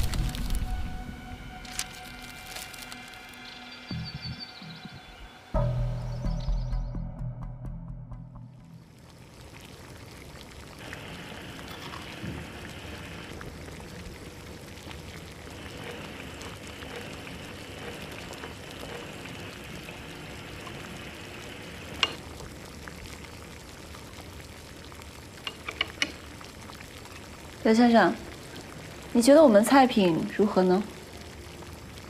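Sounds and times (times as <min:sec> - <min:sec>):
broth bubbling and sizzling: 0:00.0 - 0:04.8, 0:08.5 - 0:32.0.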